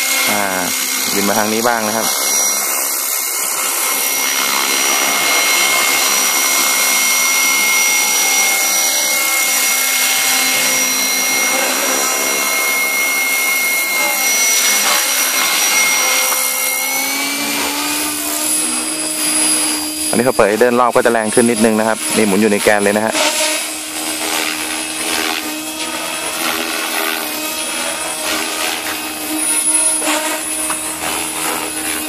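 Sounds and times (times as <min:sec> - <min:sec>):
rc helicopter motor whine: 0:00.0 - 0:32.0
rotor blades whirring: 0:00.0 - 0:32.0.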